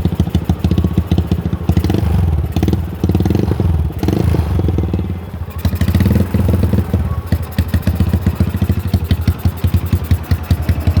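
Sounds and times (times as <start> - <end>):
motorcycle engine revving and idling: 0.0 - 11.0.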